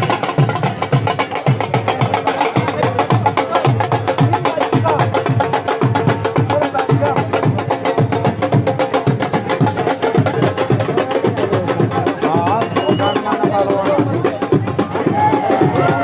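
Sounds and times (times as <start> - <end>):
fast steady drumming: 0.0 - 16.0
music: 0.0 - 16.0.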